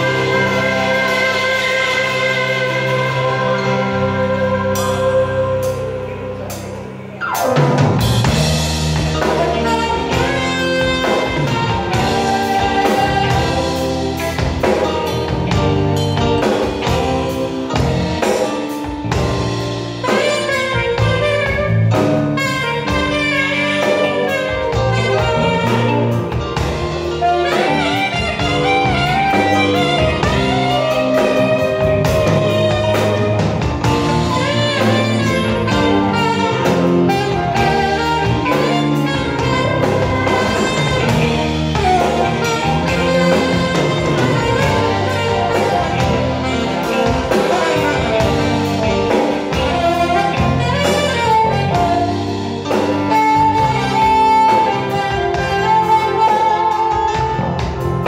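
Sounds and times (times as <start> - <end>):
drum kit: 0.0 - 58.0
jazz band playing: 0.0 - 58.0
saxophone melody: 0.0 - 58.0.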